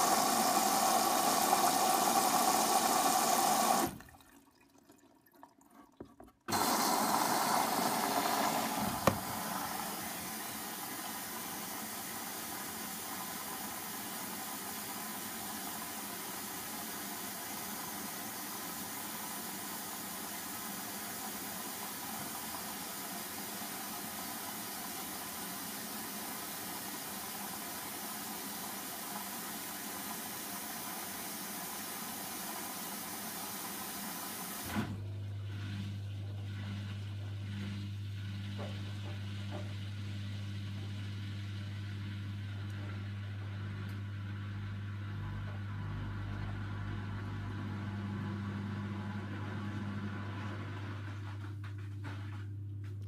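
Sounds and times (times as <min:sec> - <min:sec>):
washing machine drum motor humming: 0:00.0 - 0:04.1, 0:06.4 - 0:53.0
water filling washing machine: 0:00.0 - 0:53.0.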